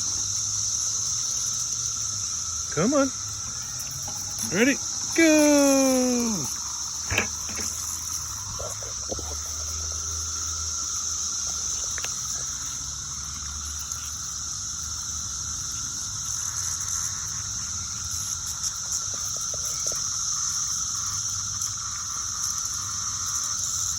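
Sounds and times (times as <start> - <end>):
cicadas droning: 0.0 - 23.9.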